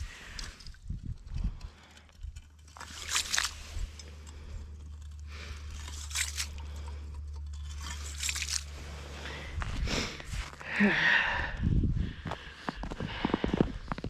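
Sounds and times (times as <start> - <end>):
steady low hum: 0.0 - 14.0
snow and ice crunching: 1.7 - 14.0.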